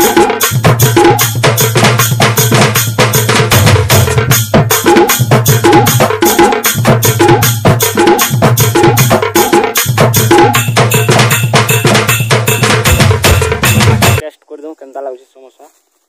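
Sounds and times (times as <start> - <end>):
fast percussion beat: 0.0 - 14.2.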